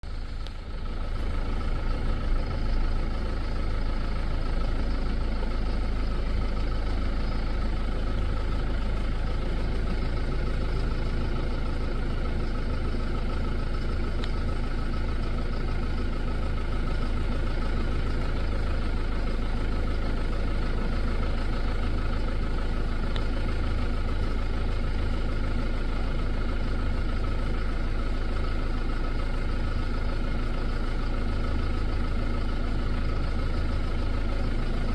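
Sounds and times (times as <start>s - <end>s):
vehicle engine idling: 0.0s - 34.9s.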